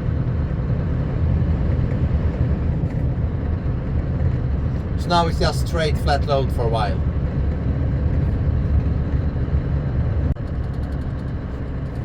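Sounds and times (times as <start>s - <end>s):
truck engine running: 0.0s - 12.0s
tyre and road rumble: 0.0s - 12.0s.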